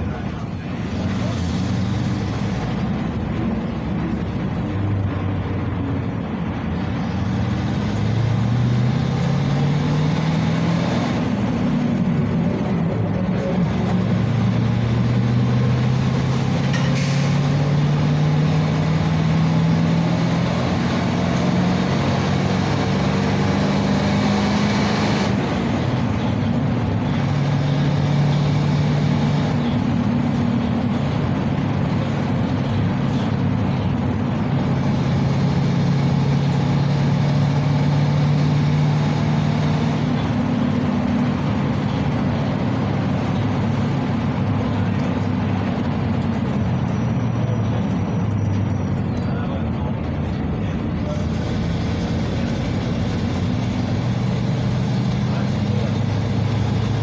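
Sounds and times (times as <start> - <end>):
bus engine accelerating: 0.0 - 57.0
road noise hum: 0.0 - 57.0.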